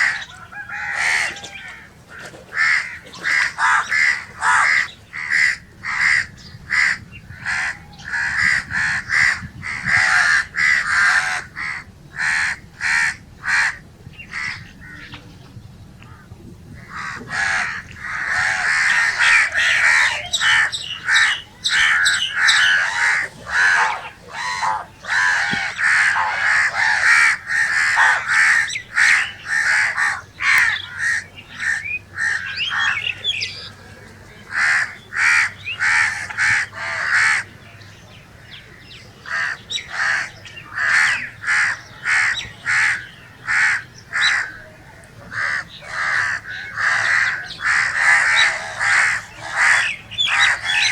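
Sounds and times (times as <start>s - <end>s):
crows cawing: 0.0s - 15.2s, 16.1s - 33.8s, 34.5s - 37.5s, 38.4s - 44.6s, 45.2s - 50.9s.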